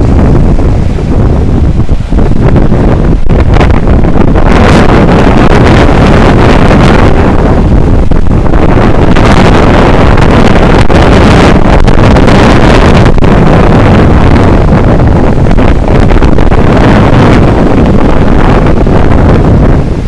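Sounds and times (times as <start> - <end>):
surf breaking: 0.0 - 20.0
wind buffeting microphone: 0.0 - 20.0.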